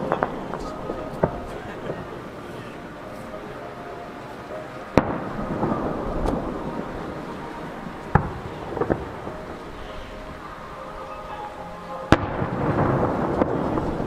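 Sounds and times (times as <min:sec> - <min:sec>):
long rolling rumble: 0:00.0 - 0:14.0.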